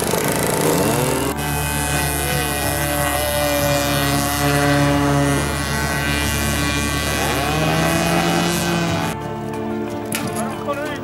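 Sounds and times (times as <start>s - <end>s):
model speedboat engines: 0.0s - 11.0s.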